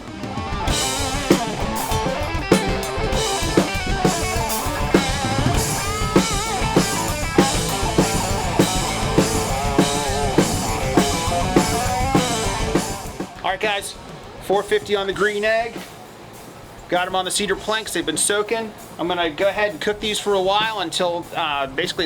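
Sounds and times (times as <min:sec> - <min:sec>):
drum kit beat: 0:00.0 - 0:22.0
rock band jamming: 0:00.0 - 0:22.0.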